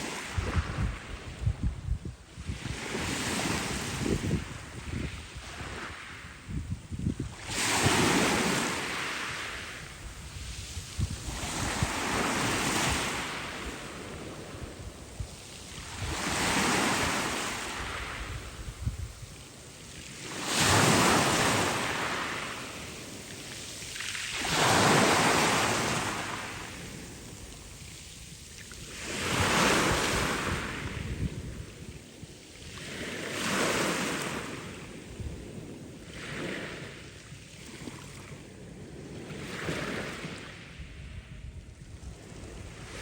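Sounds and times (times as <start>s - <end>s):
waves washing onto shore: 0.0s - 40.8s.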